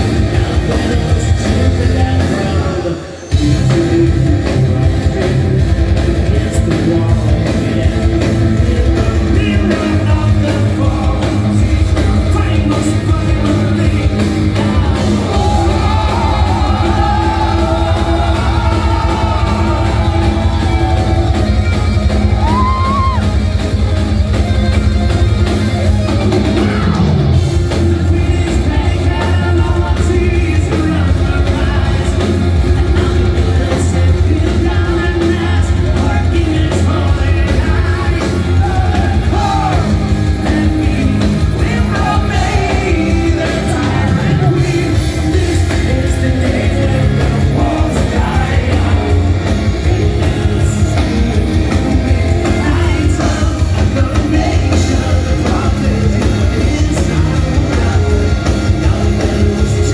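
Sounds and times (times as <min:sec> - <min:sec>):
male lead singer: 0:00.0 - 0:24.4, 0:26.2 - 0:59.9
metal band playing live: 0:00.0 - 0:59.9.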